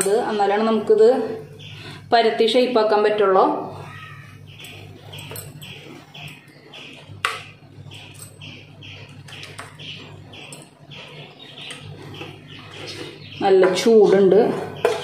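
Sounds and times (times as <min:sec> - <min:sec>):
bird chirping: 0:00.0 - 0:02.5, 0:03.7 - 0:15.0
low steady hum: 0:00.0 - 0:15.0.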